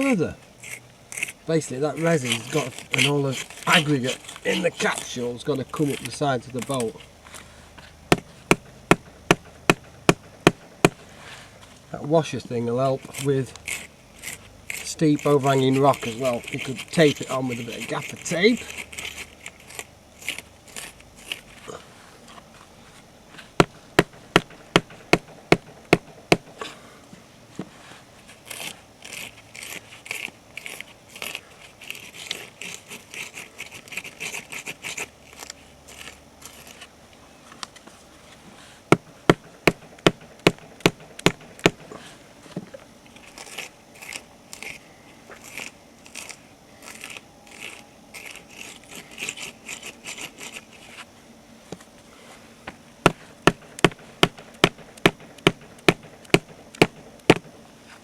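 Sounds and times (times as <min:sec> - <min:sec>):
rhythmic scraping of bolt in resin: 0:00.0 - 0:26.7, 0:27.6 - 0:37.0, 0:43.0 - 0:51.1, 0:53.0 - 0:58.0.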